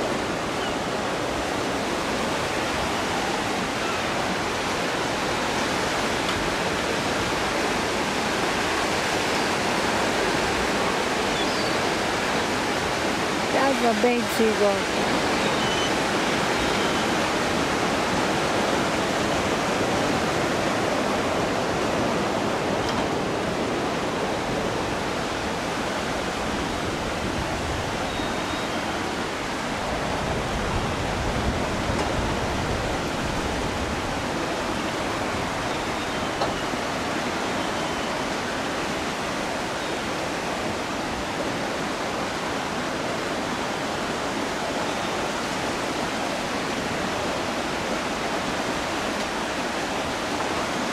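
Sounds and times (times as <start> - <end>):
river water rushing through a weir: 0.0 - 50.9.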